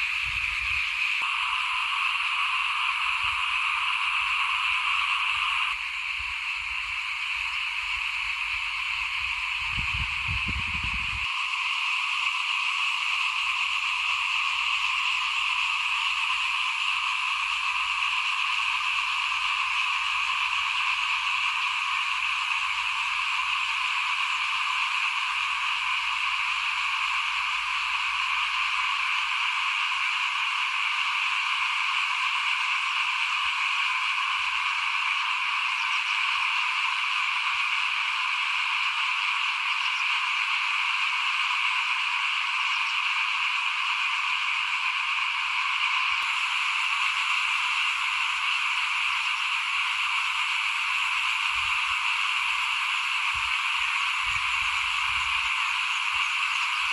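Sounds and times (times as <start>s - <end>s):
chorus of small frogs calling: 0.0s - 56.9s.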